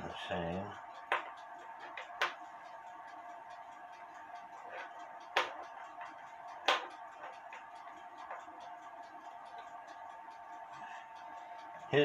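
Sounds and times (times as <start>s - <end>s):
clock ticking: 0.0s - 12.0s
steady low hum: 0.0s - 12.0s.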